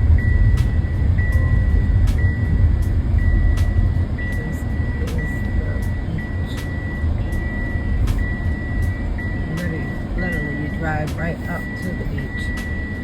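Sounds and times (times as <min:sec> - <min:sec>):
car cabin rumble: 0:00.0 - 0:13.0
high electronic beep: 0:00.0 - 0:13.0.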